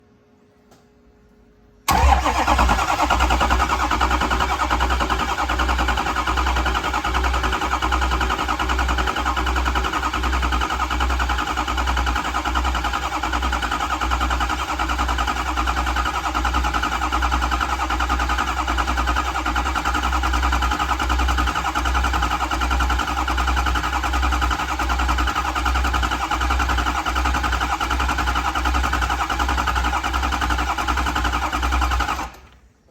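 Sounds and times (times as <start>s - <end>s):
starter motor cranking engine: 1.9s - 32.6s.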